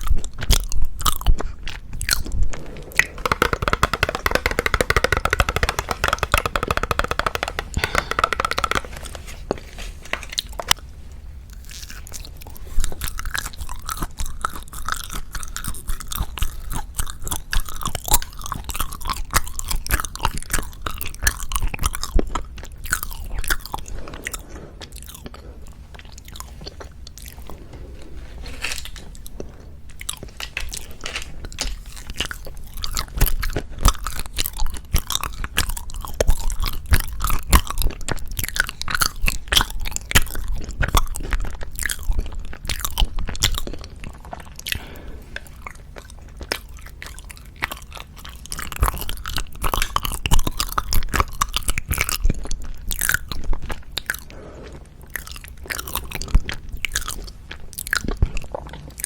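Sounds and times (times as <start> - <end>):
close chewing with crunching bites: 0.0 - 5.5, 11.5 - 59.0.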